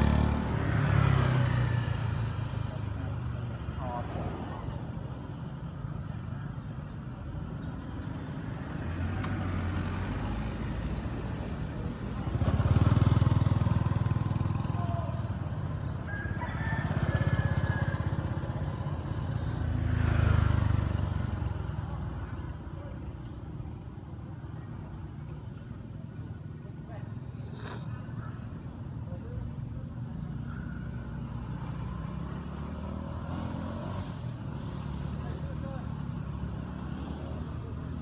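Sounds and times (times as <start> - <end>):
steady traffic hum: 0.0 - 38.0
vehicles passing on road: 0.0 - 38.0.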